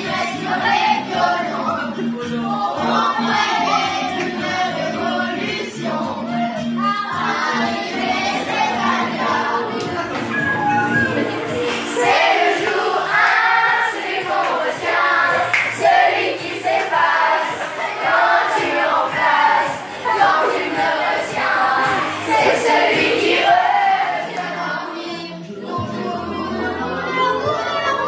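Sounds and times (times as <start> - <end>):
backing music: 0.0 - 28.0
children singing together: 0.0 - 28.0.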